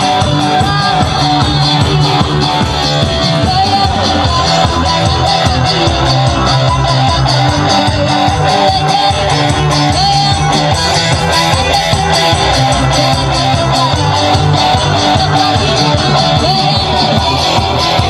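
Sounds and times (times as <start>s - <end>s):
street-band music through sound system: 0.0s - 18.0s.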